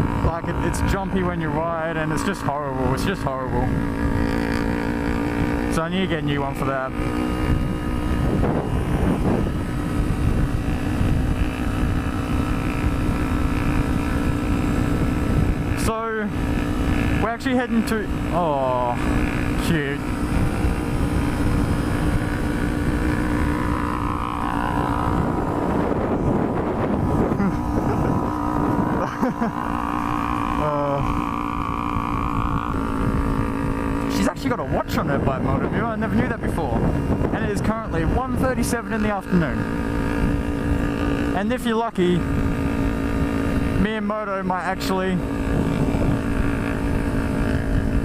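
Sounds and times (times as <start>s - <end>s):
motorcycle engine running: 0.0s - 48.0s
wind rumble on microphone: 0.0s - 48.0s.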